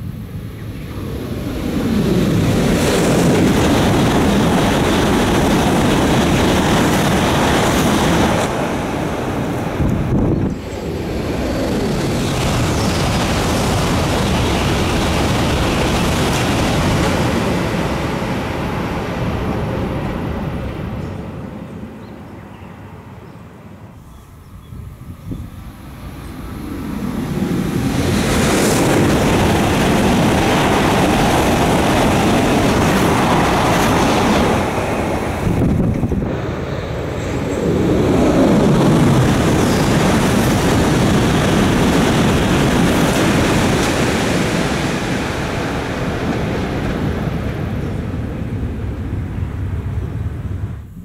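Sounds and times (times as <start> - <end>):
high-speed train passing: 0.0 - 51.0.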